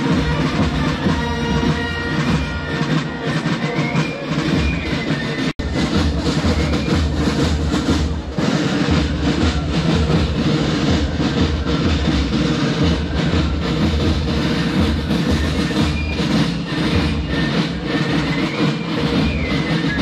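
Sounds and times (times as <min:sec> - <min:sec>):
carnival band music: 0:00.0 - 0:20.0.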